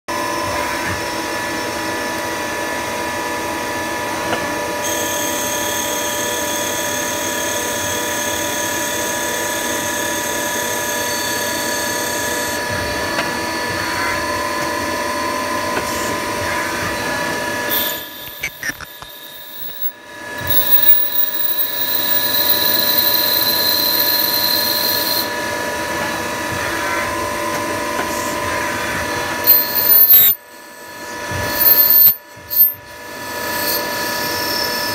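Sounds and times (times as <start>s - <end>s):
high whine: 0.1s - 34.9s
machine mechanical whine: 0.1s - 34.9s.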